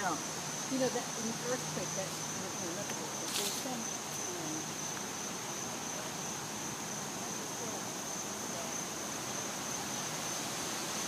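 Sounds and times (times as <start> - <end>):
background hiss: 0.0 - 11.0
insects high-pitched drone: 0.0 - 11.0.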